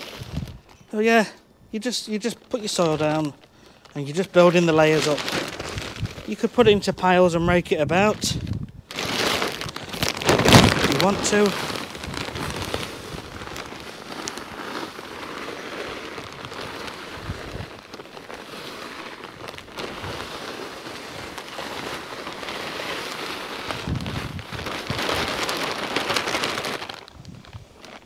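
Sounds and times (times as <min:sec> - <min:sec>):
soil pouring from a bag: 0:00.0 - 0:28.0.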